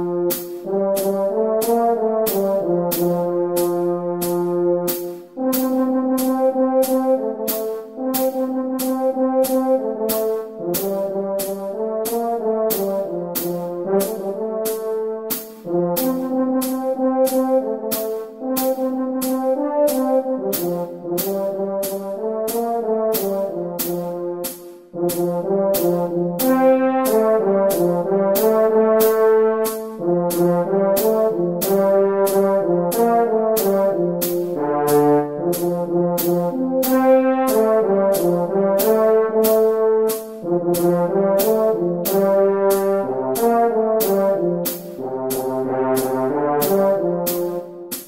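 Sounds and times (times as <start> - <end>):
backing track with beat: 0.0 - 48.0
french horn melody: 0.0 - 48.0.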